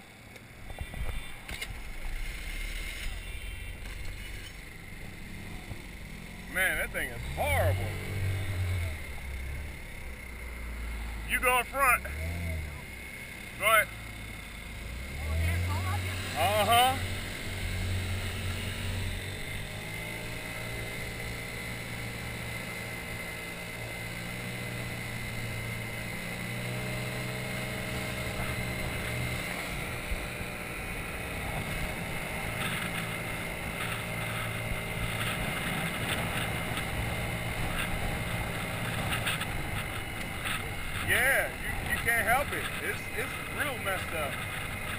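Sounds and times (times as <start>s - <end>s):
motor scooter engine running: 0.0s - 44.9s.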